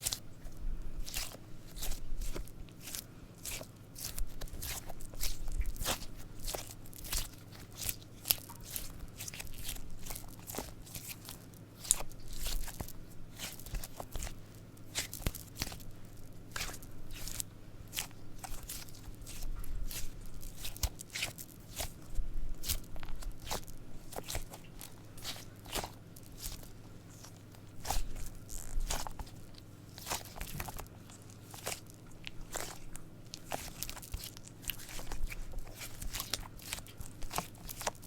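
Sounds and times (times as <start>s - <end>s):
squishy toy crackling and squishing: 0.0s - 38.0s.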